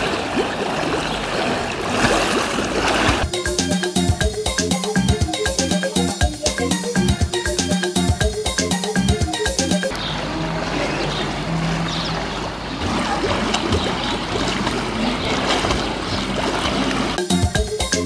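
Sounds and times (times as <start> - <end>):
pool water splashing: 0.0 - 18.0.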